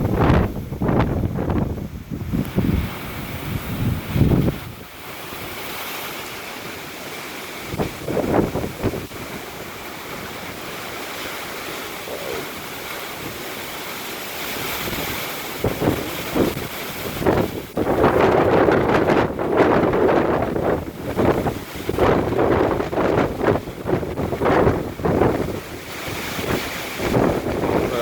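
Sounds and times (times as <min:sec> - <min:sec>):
wind buffeting microphone: 0:00.0 - 0:06.8, 0:07.4 - 0:28.0
gusty storm wind: 0:00.0 - 0:28.0.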